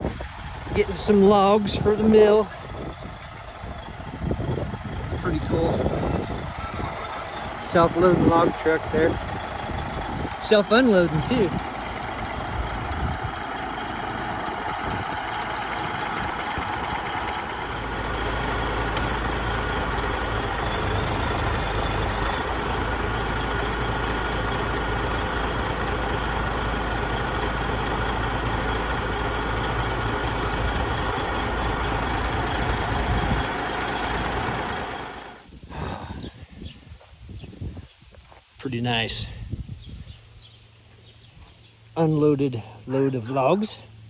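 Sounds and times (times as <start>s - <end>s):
truck diesel engine running: 0.0s - 36.0s.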